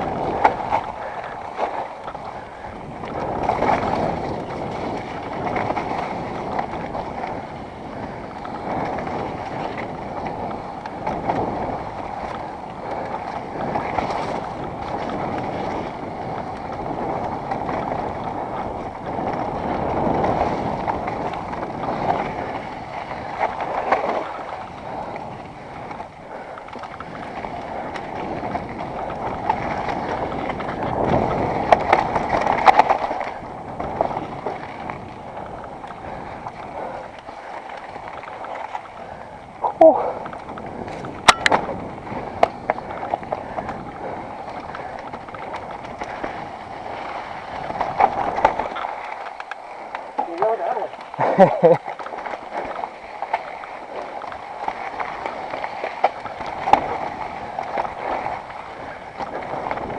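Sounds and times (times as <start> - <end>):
tyres rumbling on dirt trail: 0.0 - 59.9
wind on microphone: 0.0 - 59.9.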